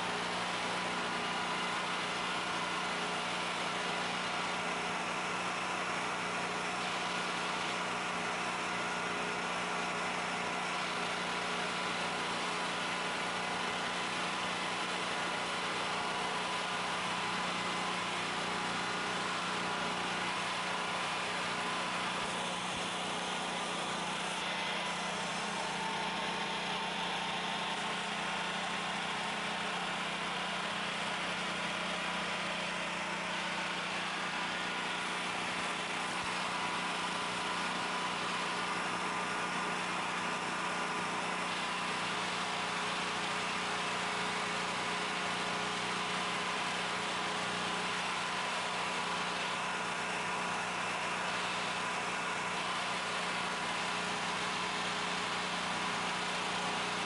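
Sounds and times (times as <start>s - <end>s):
generator engine humming: 0.0s - 57.0s.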